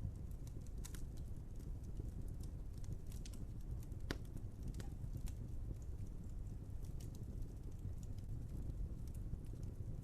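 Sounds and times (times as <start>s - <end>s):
fire crackles and pops: 0.0s - 10.0s
wood fire rumbling: 0.0s - 10.0s.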